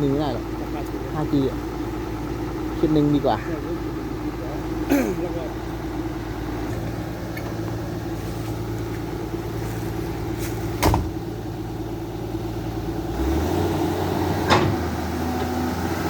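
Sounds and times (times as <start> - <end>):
heavy vehicle engine idling: 0.0 - 16.0.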